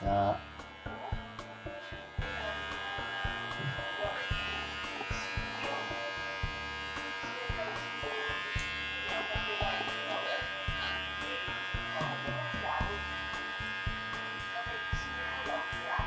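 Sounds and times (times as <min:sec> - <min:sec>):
electric pet trimmer buzzing: 0:00.0 - 0:16.0.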